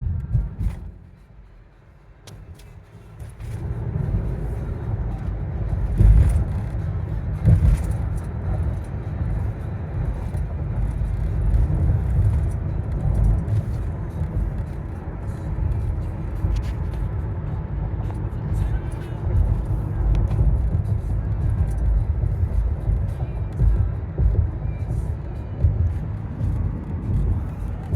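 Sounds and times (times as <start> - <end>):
low vehicle rumble: 0.0 - 27.9.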